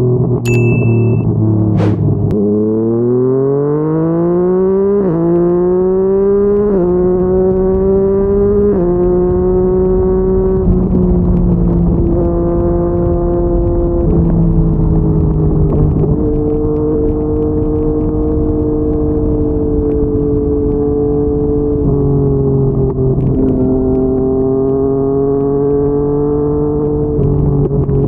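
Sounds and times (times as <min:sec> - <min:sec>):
motorcycle engine accelerating hard: 0:01.4 - 0:28.0.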